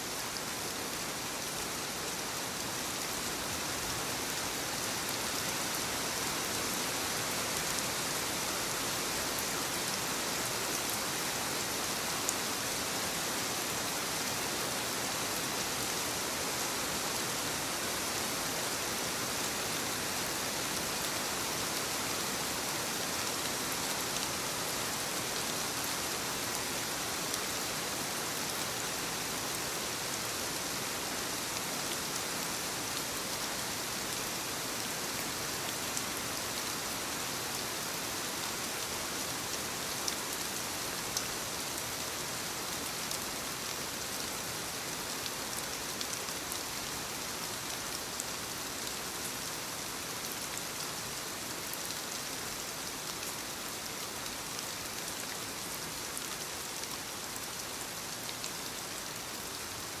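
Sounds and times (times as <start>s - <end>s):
light rain on leaves: 0.0s - 60.0s.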